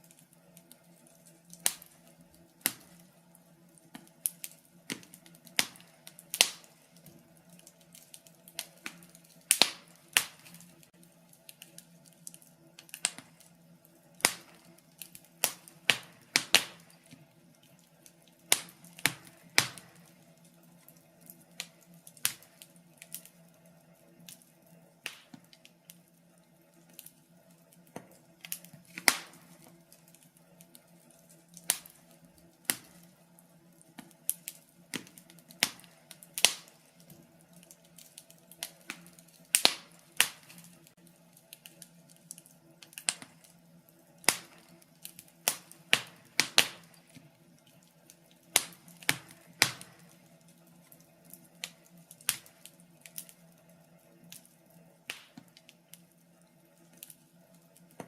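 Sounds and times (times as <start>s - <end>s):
faint steady hum: 0.0s - 58.0s
wood fire crackling: 0.0s - 58.0s.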